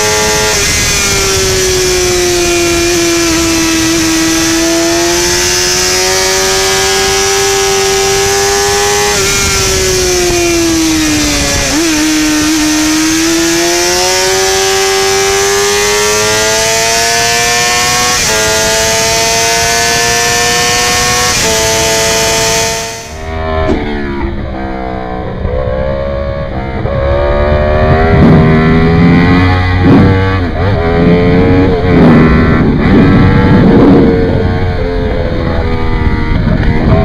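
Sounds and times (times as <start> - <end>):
sportbike engine at high revs: 0.0 - 37.0
wind rushing: 0.0 - 37.0.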